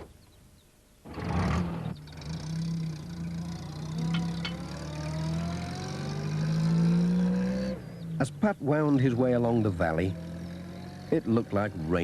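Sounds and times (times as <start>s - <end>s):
van engine starting and running: 1.0s - 12.0s.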